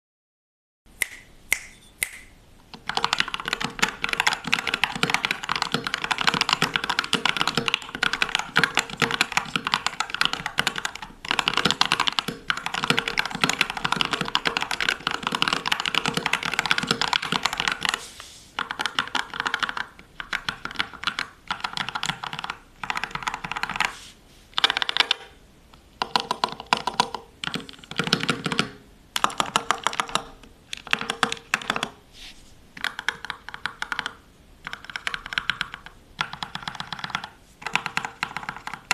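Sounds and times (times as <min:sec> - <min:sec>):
keyboard typing: 0:01.7 - 0:18.0, 0:18.6 - 0:23.9, 0:24.6 - 0:25.4, 0:26.0 - 0:32.0, 0:32.8 - 0:38.9.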